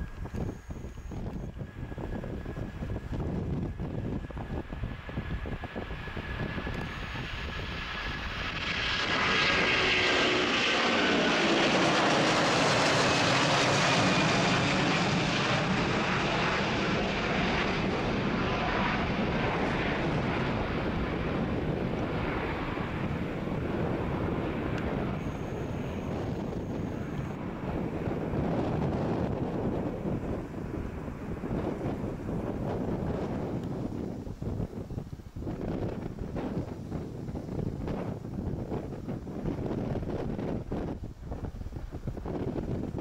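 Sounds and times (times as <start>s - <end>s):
jet engine whine: 0.0s - 43.0s
jet engines roaring at take-off: 0.0s - 43.0s.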